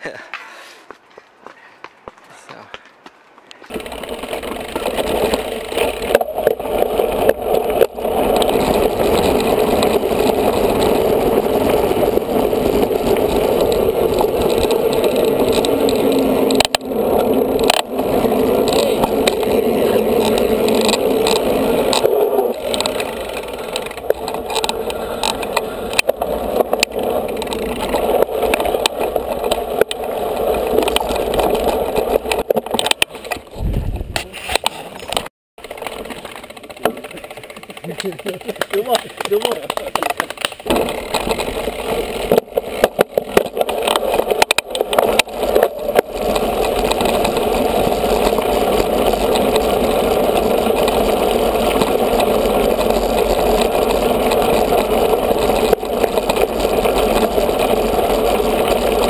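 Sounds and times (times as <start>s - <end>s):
tyres rolling over gravel: 3.6s - 33.6s, 34.3s - 59.0s
bike rattling and knocking: 3.7s - 59.0s.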